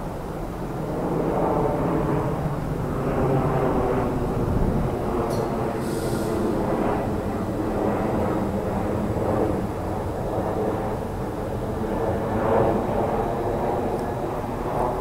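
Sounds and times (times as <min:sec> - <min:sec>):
steady engine drone: 0:00.0 - 0:15.0.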